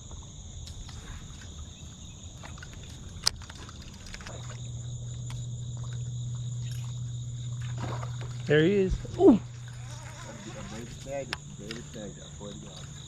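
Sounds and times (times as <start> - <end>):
low steady hum: 0.0 - 13.0
night insects chirring: 0.0 - 13.0.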